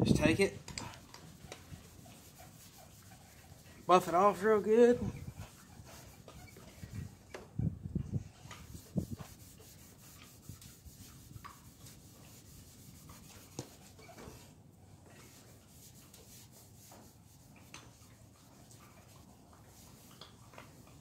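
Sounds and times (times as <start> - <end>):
towel scrubbing metal: 0.0 - 7.5, 8.3 - 21.0.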